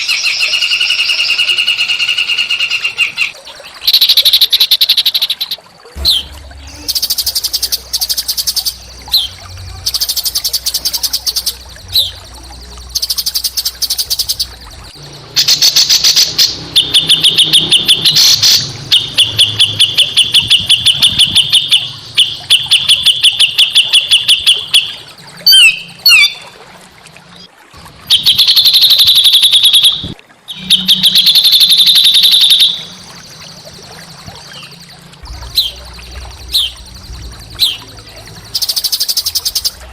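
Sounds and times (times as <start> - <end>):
songbird chattering trills: 0.0 - 26.4, 28.1 - 39.9.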